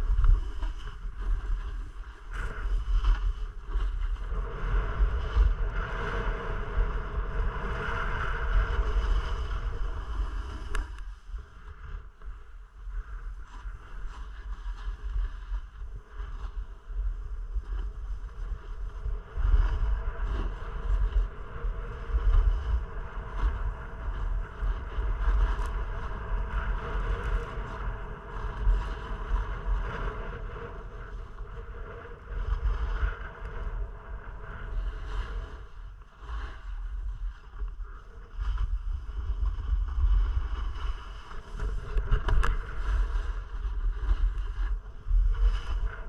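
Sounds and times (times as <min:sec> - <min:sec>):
skis scraping on snow: 0:00.0 - 0:12.5, 0:13.1 - 0:46.0
wind buffeting microphone: 0:00.0 - 0:46.0.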